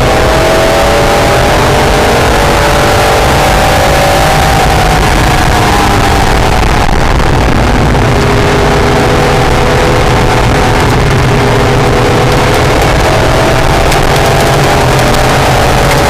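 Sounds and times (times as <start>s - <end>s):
loud rushing noise: 0.0s - 16.0s
race car engine: 0.0s - 16.0s.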